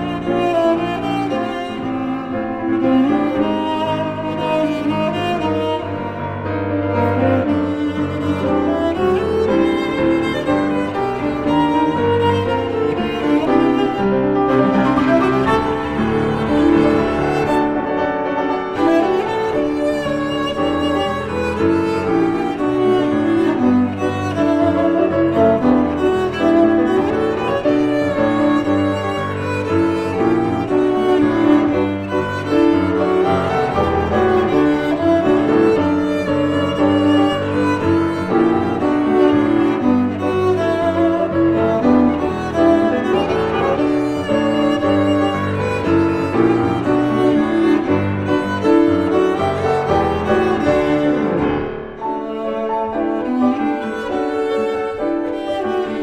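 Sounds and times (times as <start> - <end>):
bowed cello melody: 0.0 - 56.0
piano accompaniment: 0.0 - 56.0.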